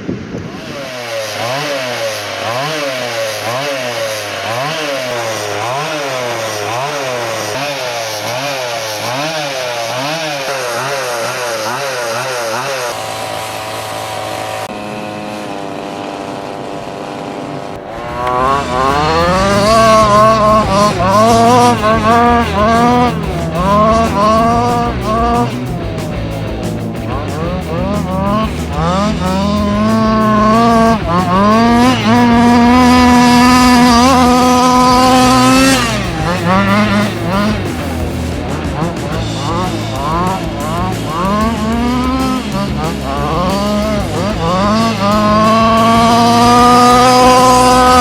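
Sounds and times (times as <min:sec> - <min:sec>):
small two-stroke engine revving: 0:00.0 - 0:48.0.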